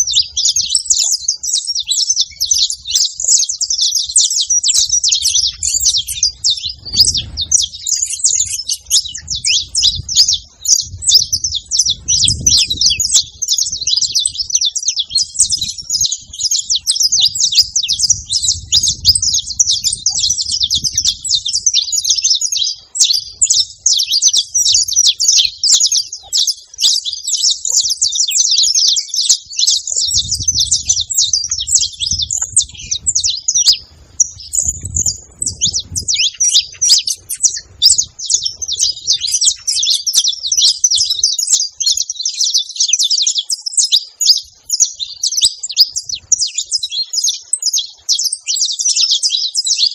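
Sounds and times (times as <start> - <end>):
finch chirping: 0.0 - 49.9.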